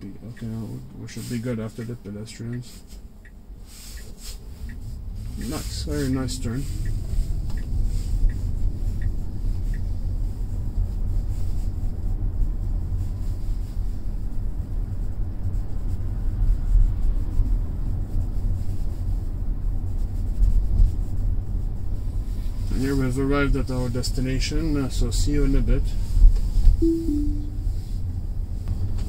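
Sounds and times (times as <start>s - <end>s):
road and tyre rumble in car cabin: 0.0s - 26.8s, 27.6s - 29.0s.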